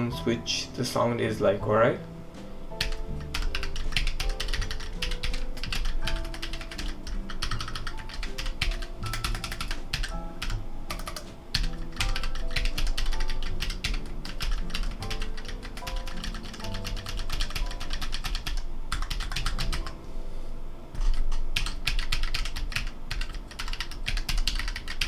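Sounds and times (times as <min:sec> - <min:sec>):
mechanical keyboard typing: 0:02.8 - 0:20.0, 0:21.0 - 0:25.0.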